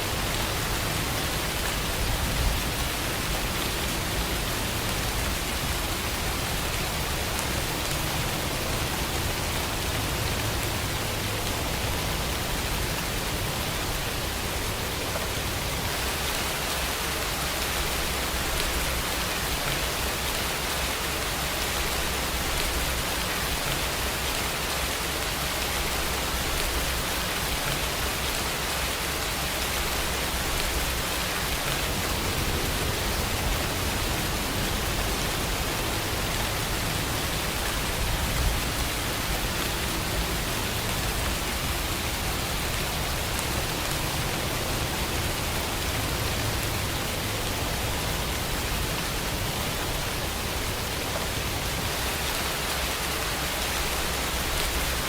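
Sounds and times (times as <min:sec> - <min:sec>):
steady rain hissing: 0:00.0 - 0:55.0.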